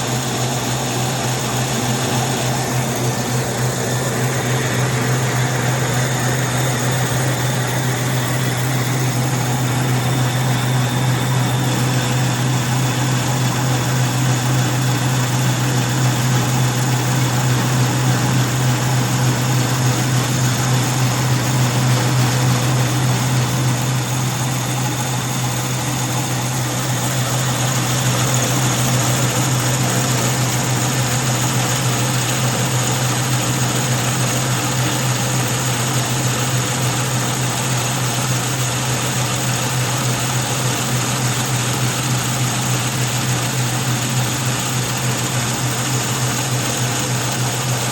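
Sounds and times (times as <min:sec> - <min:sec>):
milling machine engine hum: 0:00.0 - 0:47.9.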